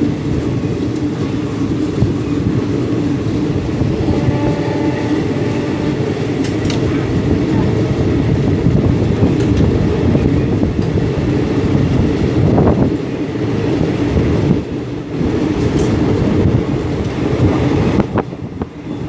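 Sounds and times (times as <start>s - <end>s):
knocks of train wheels: 0.0s - 13.0s, 13.6s - 18.8s
train wheels rumbling on rails: 0.0s - 19.0s.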